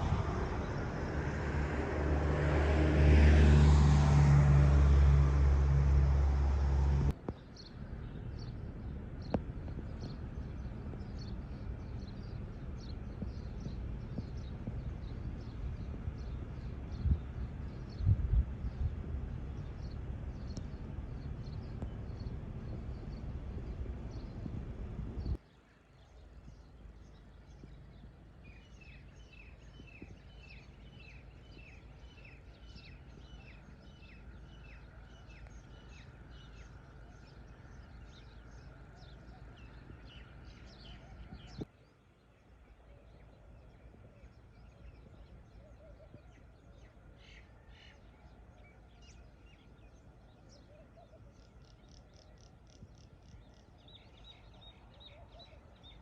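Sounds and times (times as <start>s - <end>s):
faint low rumble: 0.0s - 2.4s, 4.2s - 56.0s
birds chirping: 5.4s - 56.0s.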